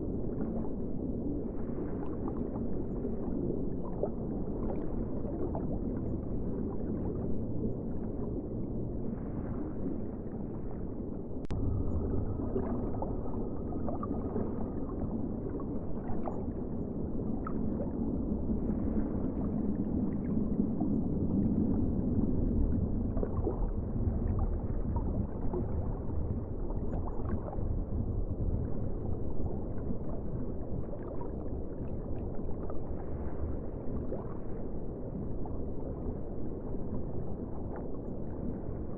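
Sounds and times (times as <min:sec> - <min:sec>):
faint gurgles: 0:00.0 - 0:38.9
ocean water rumble and wash: 0:00.0 - 0:38.9.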